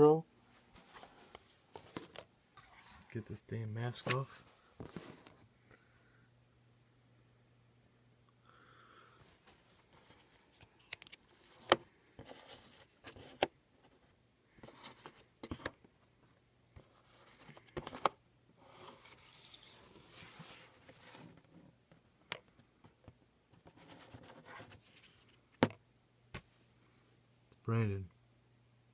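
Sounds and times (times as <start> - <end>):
faint low hum: 0.0 - 28.9.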